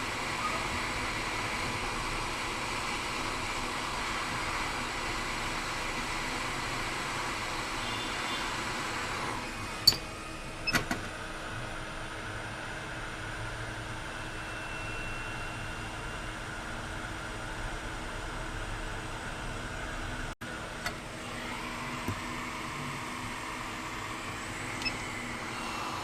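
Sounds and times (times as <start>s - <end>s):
mechanical whirring hum: 0.0s - 26.0s.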